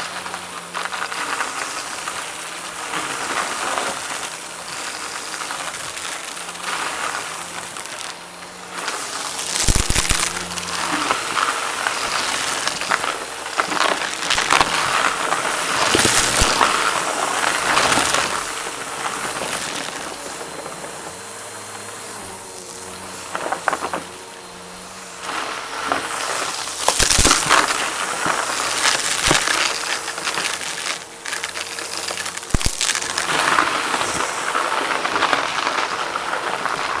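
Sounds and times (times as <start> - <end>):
debris crackling and clicking: 0.0 - 24.2, 25.2 - 37.0
vacuum cleaner running: 0.0 - 37.0.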